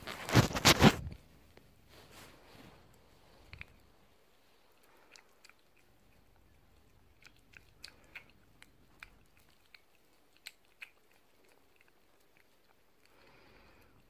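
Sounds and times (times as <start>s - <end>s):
cat licking and lapping: 2.0s - 14.0s.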